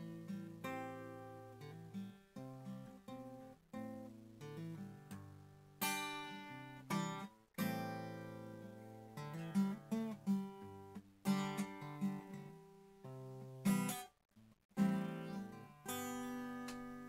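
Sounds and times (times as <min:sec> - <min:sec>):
faint quantization hiss: 0:00.0 - 0:17.0
guitar notes and chords: 0:00.0 - 0:17.0.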